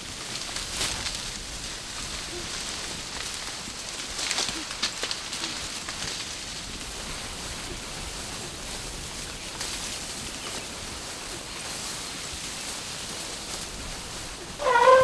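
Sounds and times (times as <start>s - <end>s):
rustling of tall grass and brush: 0.0s - 15.0s.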